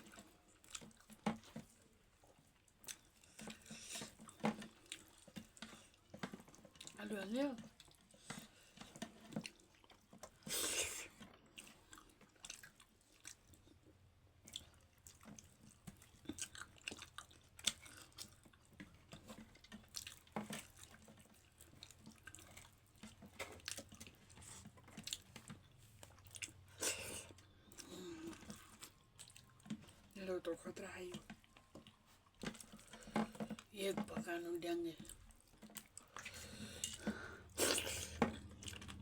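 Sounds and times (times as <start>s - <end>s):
person chewing food: 0.0s - 7.0s, 7.6s - 30.2s, 31.0s - 33.7s, 35.0s - 39.0s.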